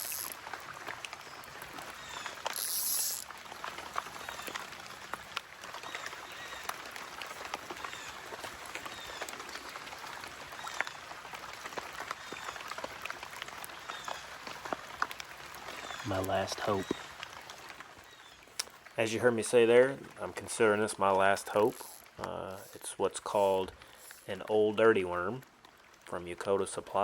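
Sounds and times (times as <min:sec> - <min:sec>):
raindrops pattering: 0:00.0 - 0:27.0
steady rain hiss: 0:00.0 - 0:27.0.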